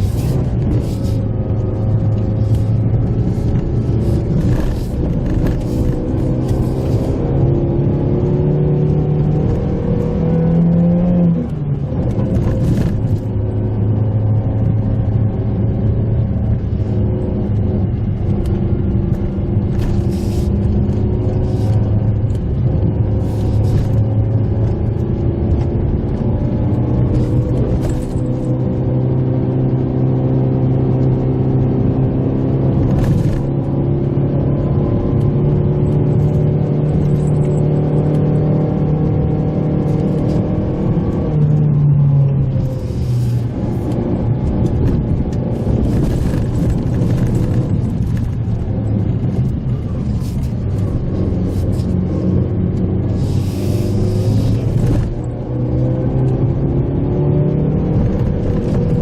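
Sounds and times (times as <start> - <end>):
car engine running: 0.0 - 29.0, 29.6 - 59.0.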